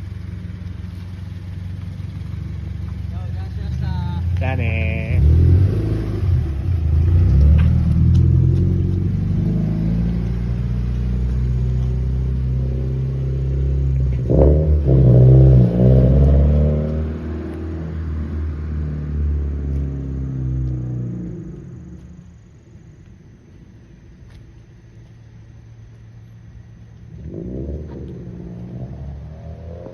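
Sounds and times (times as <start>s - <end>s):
car exhaust rumbling: 0.0s - 29.9s.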